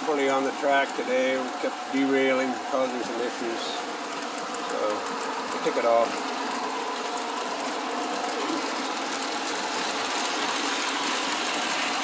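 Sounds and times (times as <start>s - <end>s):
model train motors whirring: 0.0s - 12.0s.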